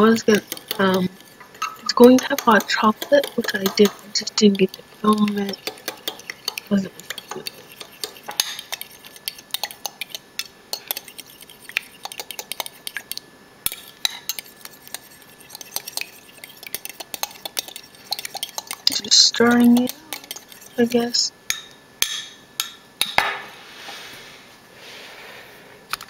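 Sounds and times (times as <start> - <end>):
fork beating eggs in glass bowl: 0.0 - 22.7.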